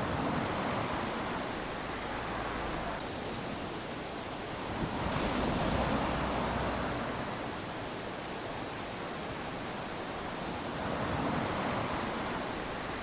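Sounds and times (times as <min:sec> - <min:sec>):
small waves lapping on beach: 0:00.0 - 0:13.0.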